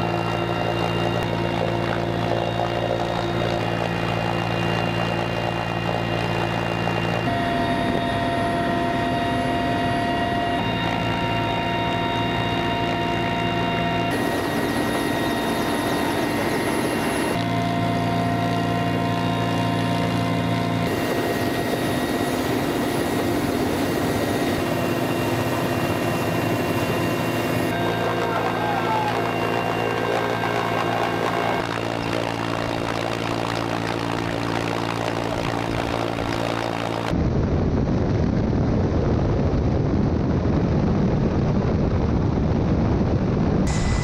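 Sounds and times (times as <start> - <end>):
helicopter engine and rotor drone: 0.0 - 44.0.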